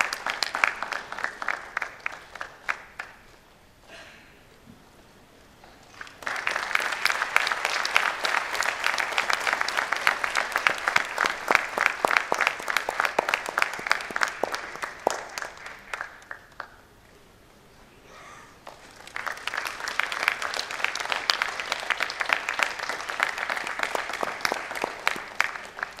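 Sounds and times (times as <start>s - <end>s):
audience applauding: 0.0s - 3.3s, 5.9s - 16.9s, 18.6s - 26.0s.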